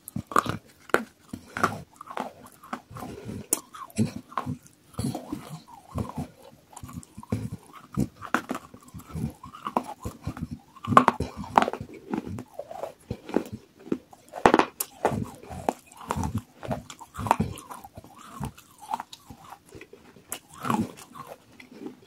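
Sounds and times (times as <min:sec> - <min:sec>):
person chewing clay crunching: 0:00.0 - 0:22.0.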